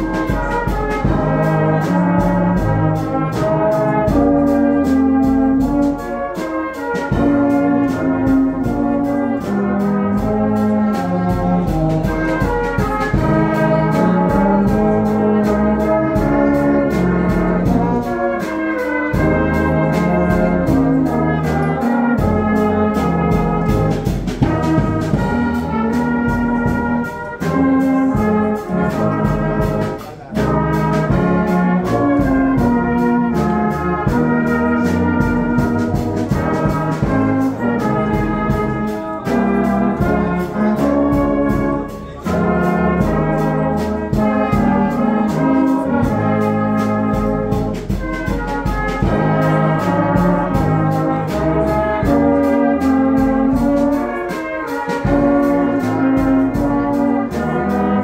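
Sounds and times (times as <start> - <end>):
brass band playing chords: 0.0 - 58.0.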